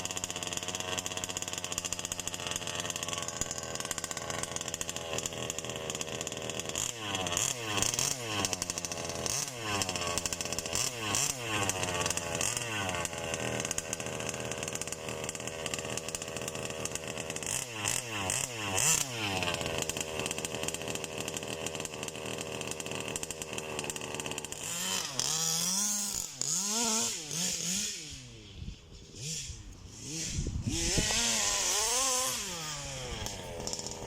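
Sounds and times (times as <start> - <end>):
small petrol engine revving: 0.0 - 34.0.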